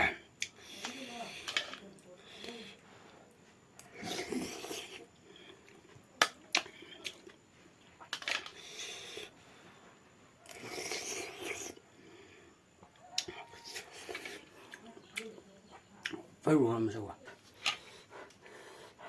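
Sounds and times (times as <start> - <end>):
chewing: 0.4 - 16.3.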